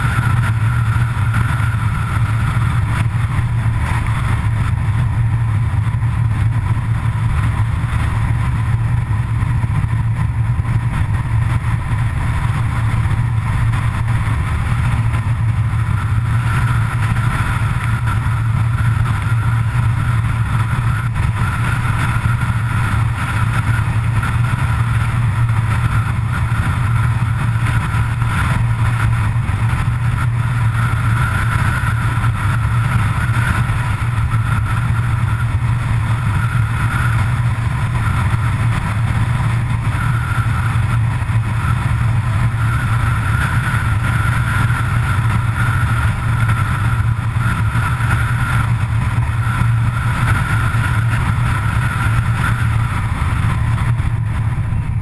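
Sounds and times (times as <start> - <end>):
engine and road noise drone: 0.0 - 55.0
steady higher hum: 0.0 - 55.0.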